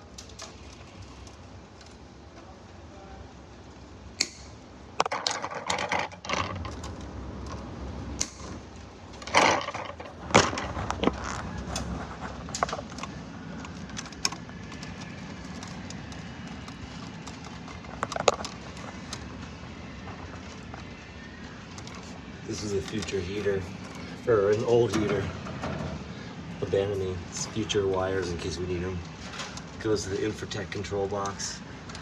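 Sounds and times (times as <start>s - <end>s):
wires and tools being handled: 0.0s - 2.6s, 4.2s - 32.0s.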